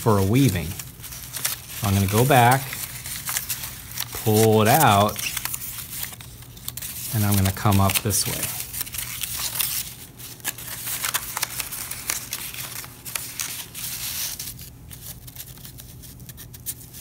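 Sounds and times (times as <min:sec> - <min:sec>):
paper rustling and scraping: 0:00.0 - 0:17.0.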